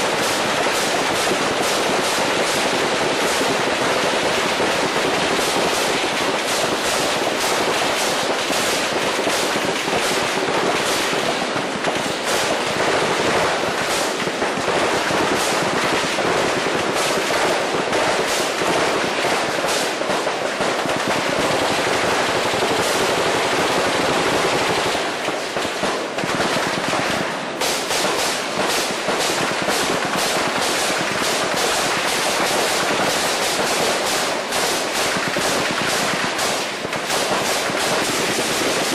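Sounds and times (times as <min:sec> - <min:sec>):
heavy rain rattling on hard surface: 0:00.0 - 0:38.9.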